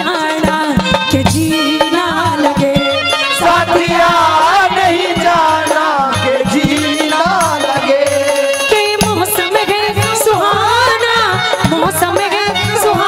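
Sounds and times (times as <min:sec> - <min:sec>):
live folk music: 0:00.0 - 0:13.0
rattling percussion: 0:00.0 - 0:13.0
steady drum rhythm: 0:00.0 - 0:13.0.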